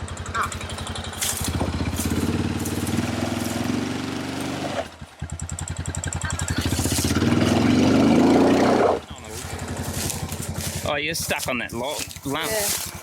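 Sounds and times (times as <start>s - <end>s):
vehicle engine revving under load: 0.0s - 11.6s.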